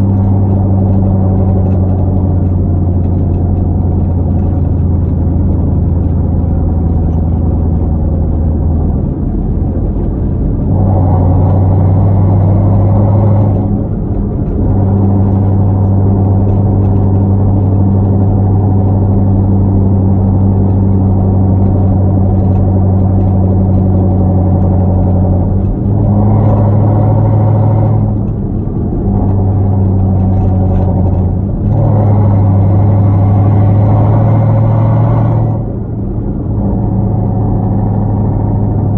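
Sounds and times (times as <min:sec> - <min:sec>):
car exhaust droning: 0:00.0 - 0:38.9.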